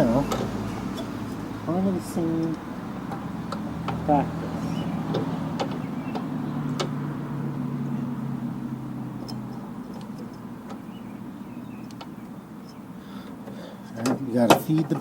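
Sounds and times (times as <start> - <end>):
parts clicking: 0.0 - 8.0, 9.1 - 10.9, 11.8 - 15.0
low engine-like hum: 0.0 - 15.0.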